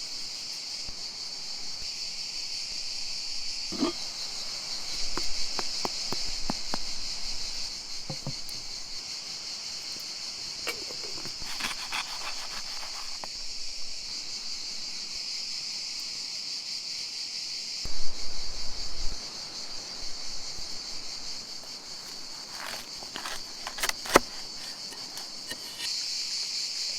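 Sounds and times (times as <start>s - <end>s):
insects chirping: 0.0s - 26.9s.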